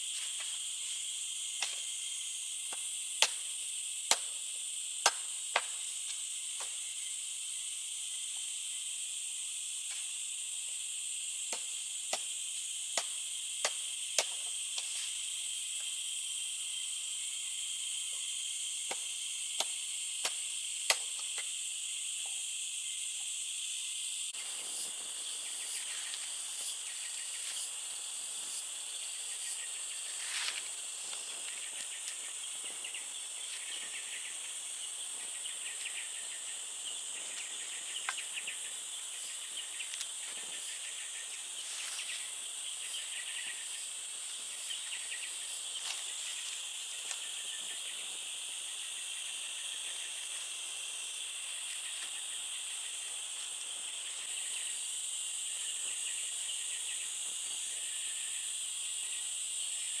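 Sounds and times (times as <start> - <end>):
insects buzzing in chorus: 0.0 - 60.0
pulsed insect chirping: 0.0 - 60.0.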